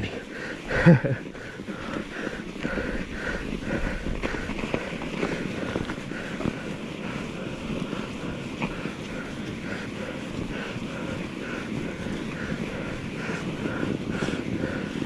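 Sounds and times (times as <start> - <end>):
bike tyres crunching snow: 0.0 - 15.0
wind on microphone: 0.0 - 15.0.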